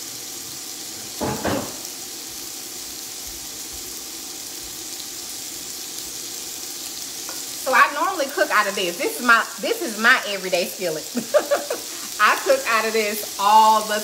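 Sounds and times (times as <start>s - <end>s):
sausage sizzling in oil: 0.0s - 14.0s.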